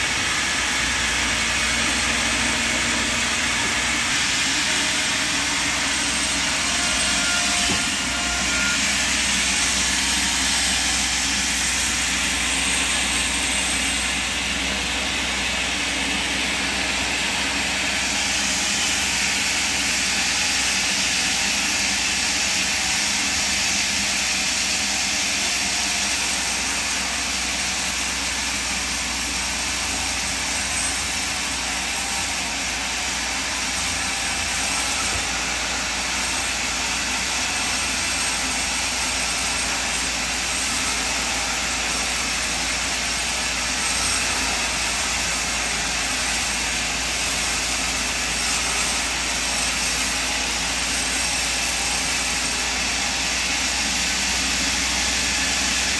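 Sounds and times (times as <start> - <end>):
band saw cutting timber: 0.0 - 55.9.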